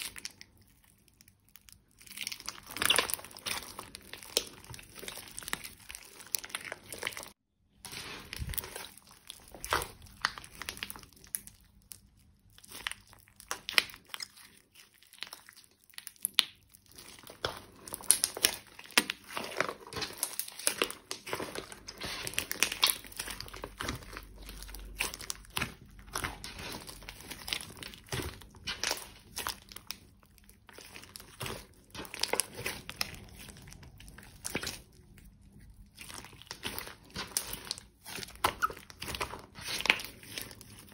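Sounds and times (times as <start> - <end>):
sticky slime crackling and popping: 0.0 - 40.9.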